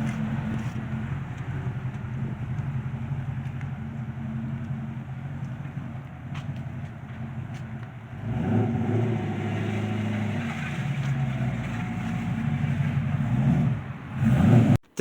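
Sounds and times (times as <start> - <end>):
vehicle engine running: 0.0 - 14.7.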